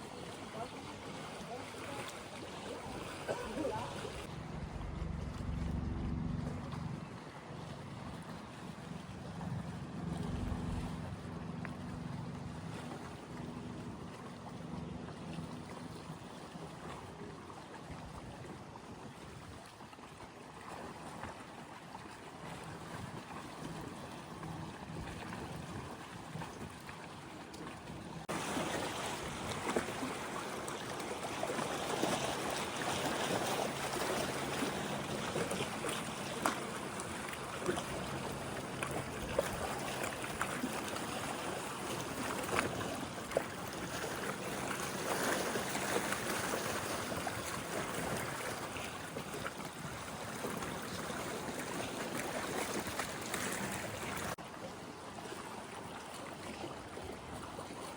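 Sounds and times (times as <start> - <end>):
lake waves lapping at shore: 0.0 - 57.9.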